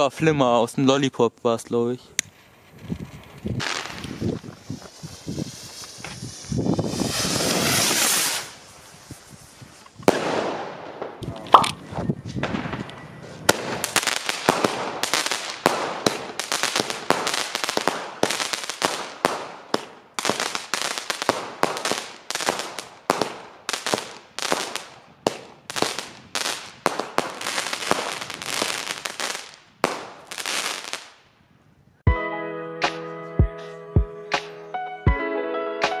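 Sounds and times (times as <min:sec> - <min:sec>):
fireworks banging: 0:02.2 - 0:31.1.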